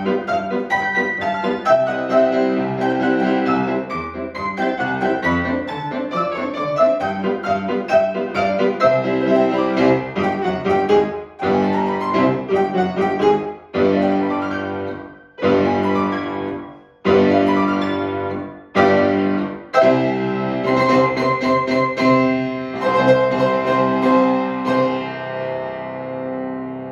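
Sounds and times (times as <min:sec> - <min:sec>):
piano playing chords: 0:00.0 - 0:26.9.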